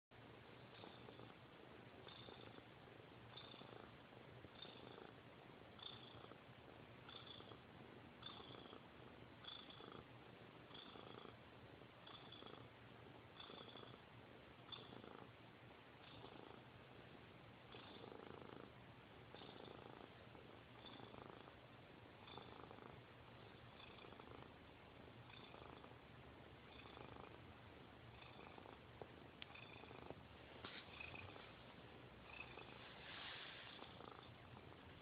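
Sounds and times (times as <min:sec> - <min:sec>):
cat purring: 0:00.2 - 0:35.0.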